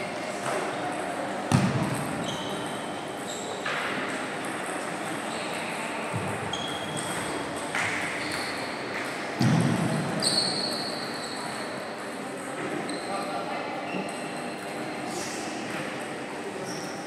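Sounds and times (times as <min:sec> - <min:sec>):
sports hall background murmur: 0:00.0 - 0:17.0.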